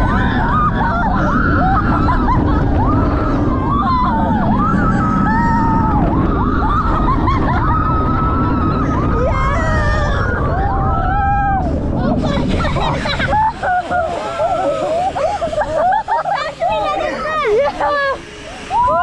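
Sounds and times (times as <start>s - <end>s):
riders screaming and yelling: 0.0s - 19.0s
roller coaster train rumble: 0.0s - 19.0s
rush of wind: 0.0s - 19.0s.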